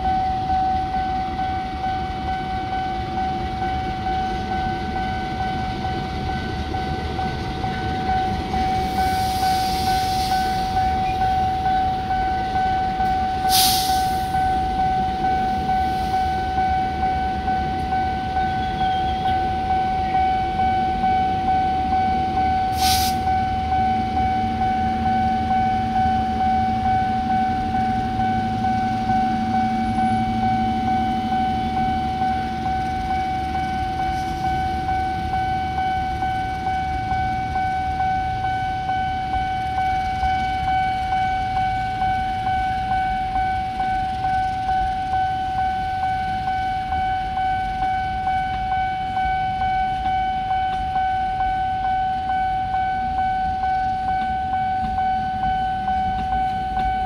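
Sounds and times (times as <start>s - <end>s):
level crossing alarm tone: 0.0s - 57.0s
locomotive engine drone: 0.0s - 57.0s
train coaches running: 0.0s - 57.0s.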